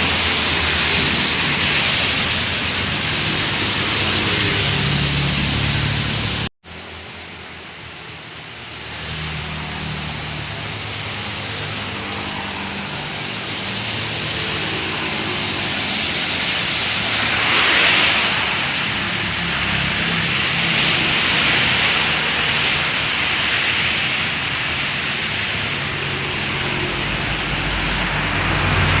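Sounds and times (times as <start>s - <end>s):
tyre spray hiss on wet road: 0.0s - 29.0s.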